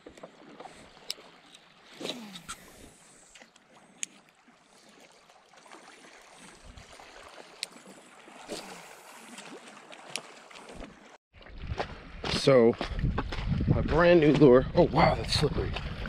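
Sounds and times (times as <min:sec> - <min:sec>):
water lapping against rocks: 0:00.0 - 0:16.0.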